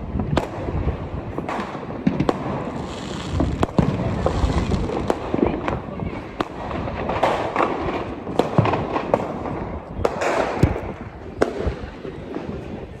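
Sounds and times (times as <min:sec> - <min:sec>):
firecracker bangs: 0:00.0 - 0:12.7
fireworks crackling: 0:00.0 - 0:13.0.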